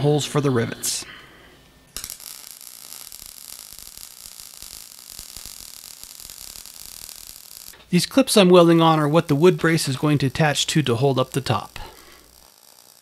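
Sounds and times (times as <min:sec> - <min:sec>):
welding arc crackling hiss: 0:00.0 - 0:13.0.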